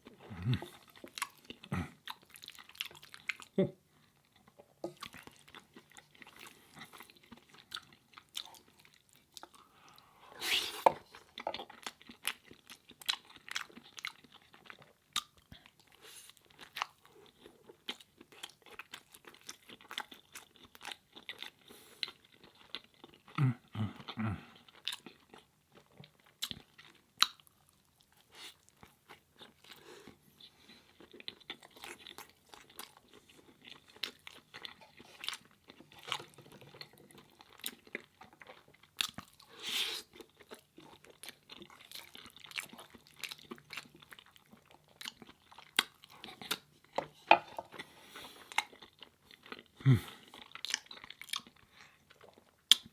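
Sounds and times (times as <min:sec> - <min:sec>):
person chewing and crunching food: 0:00.0 - 0:52.9.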